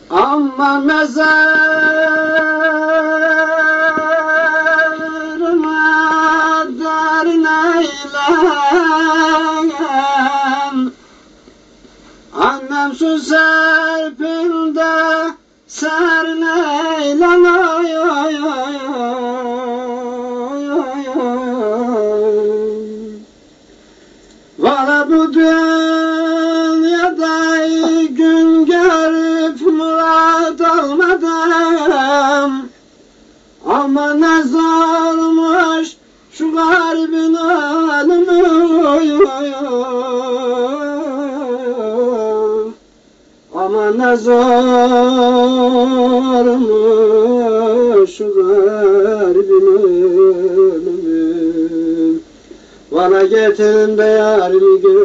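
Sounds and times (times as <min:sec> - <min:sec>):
person singing without words: 0:00.0 - 0:11.0, 0:12.3 - 0:23.3, 0:24.6 - 0:32.8, 0:33.6 - 0:42.8, 0:43.5 - 0:52.3, 0:52.9 - 0:55.0.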